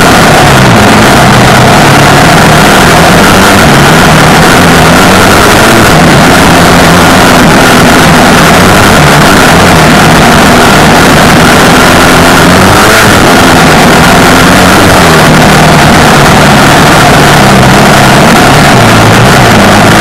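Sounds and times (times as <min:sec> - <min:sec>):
dense rushing noise: 0:00.0 - 0:20.0
off-road vehicle engine running: 0:00.0 - 0:20.0.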